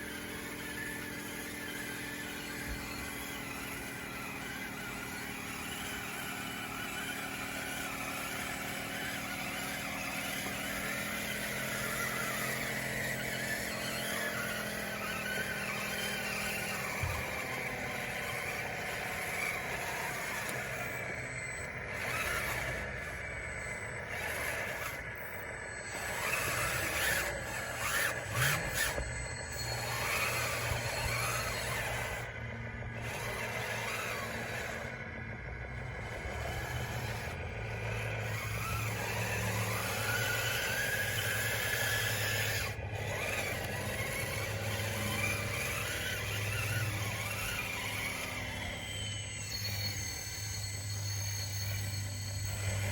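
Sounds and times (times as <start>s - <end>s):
electric motors and gearboxes whining: 0.0s - 52.9s
steady low hum: 0.0s - 52.9s.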